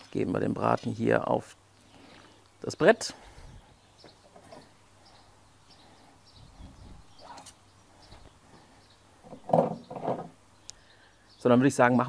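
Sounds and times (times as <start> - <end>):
faint bird chirps: 1.9 - 11.7.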